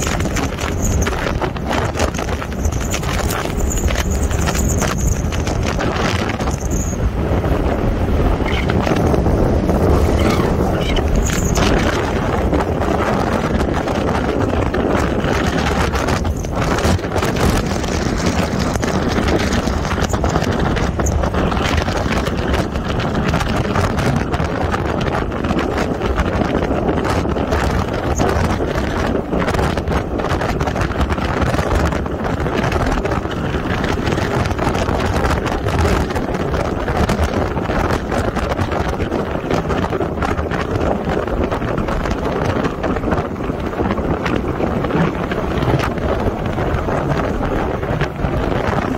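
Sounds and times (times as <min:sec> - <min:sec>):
motorcycle running: 0:00.0 - 0:48.9
wind buffeting microphone: 0:00.0 - 0:48.9.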